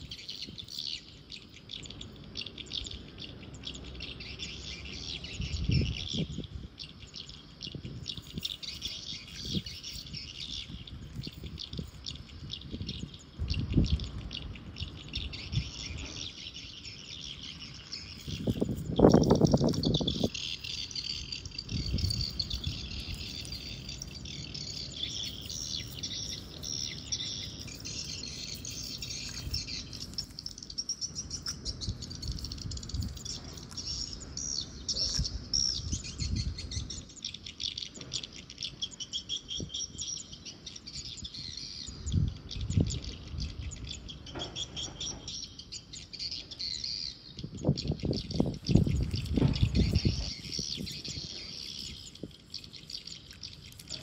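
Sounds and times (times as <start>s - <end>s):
birds and insects chirping: 0.0s - 54.0s.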